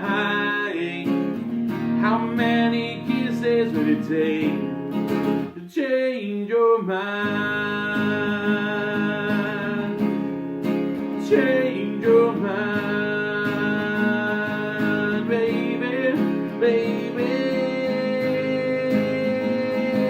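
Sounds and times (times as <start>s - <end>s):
acoustic guitar strumming: 0.0s - 5.7s, 7.1s - 20.0s.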